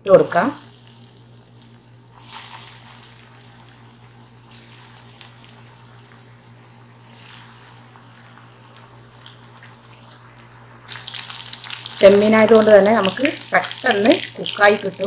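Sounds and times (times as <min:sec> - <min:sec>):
food deep-frying in oil: 0:00.0 - 0:15.0
low steady hum: 0:00.0 - 0:15.0
crackles and pops: 0:00.6 - 0:15.0.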